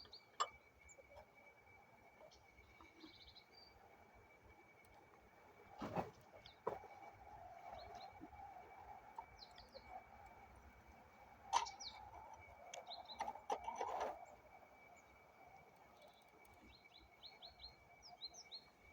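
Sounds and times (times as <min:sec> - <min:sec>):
faint bird chirps: 0:00.0 - 0:04.6, 0:06.0 - 0:18.9.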